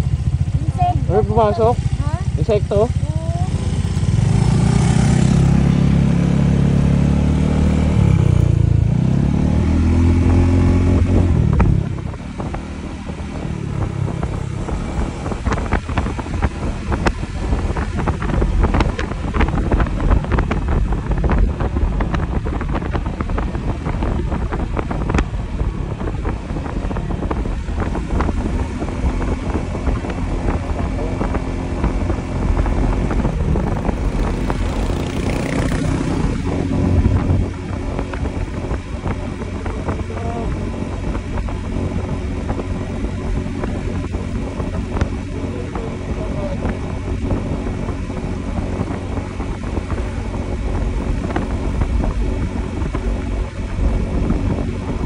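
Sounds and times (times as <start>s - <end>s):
motorcycle engine revving: 0.0s - 55.0s
wind buffeting microphone: 0.0s - 55.0s.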